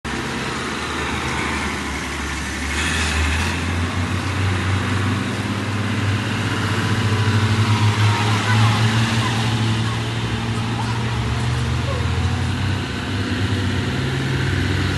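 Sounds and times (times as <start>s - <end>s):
truck engine droning: 0.1s - 14.9s.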